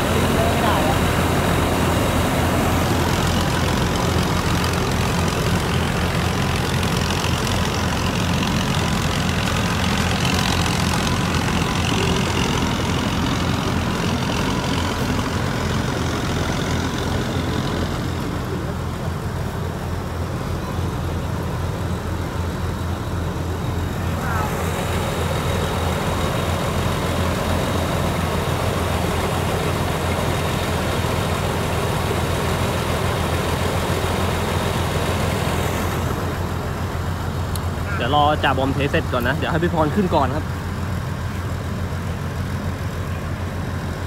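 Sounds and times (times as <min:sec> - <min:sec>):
combine harvester engine rumbling: 0:00.0 - 0:44.0.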